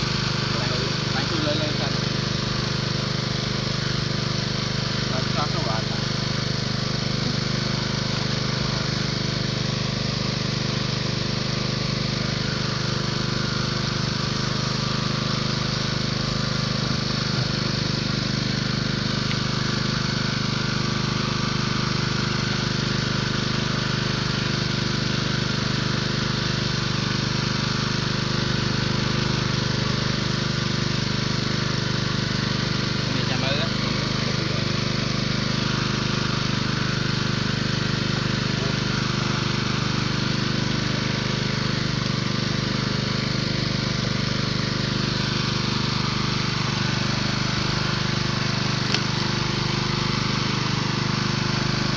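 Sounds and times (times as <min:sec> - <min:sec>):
motor low drone: 0:00.0 - 0:51.9.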